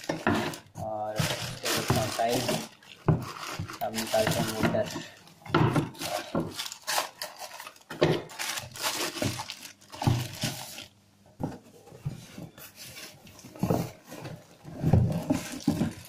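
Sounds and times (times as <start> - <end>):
cardboard and plastic rustling: 0.0 - 16.0.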